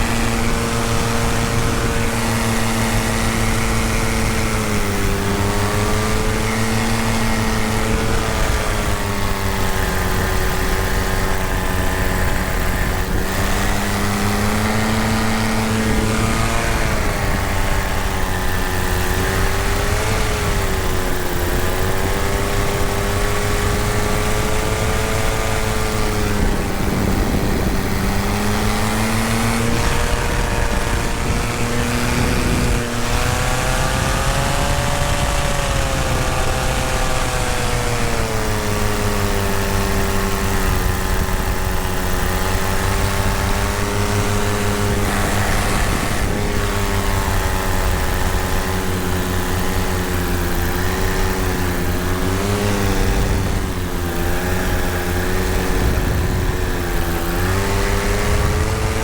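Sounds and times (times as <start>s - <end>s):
paramotor engine and propeller: 0.0s - 59.0s.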